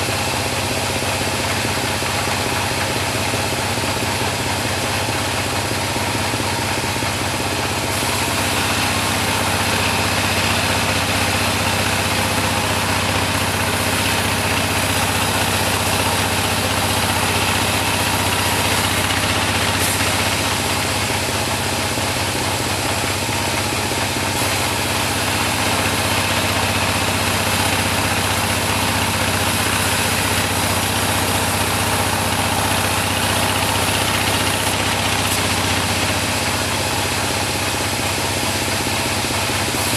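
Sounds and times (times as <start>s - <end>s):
sawmill engine drone: 0.0s - 39.9s
saw cutting: 4.4s - 39.9s.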